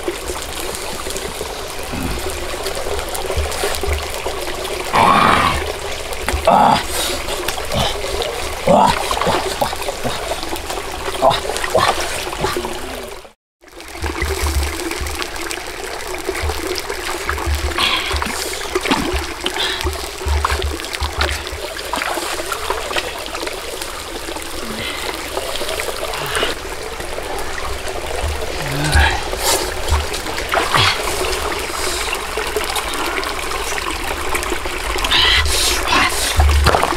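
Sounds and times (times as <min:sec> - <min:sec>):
small knocks and splashes: 0:00.0 - 0:36.9
stream trickling over rocks: 0:00.0 - 0:36.9.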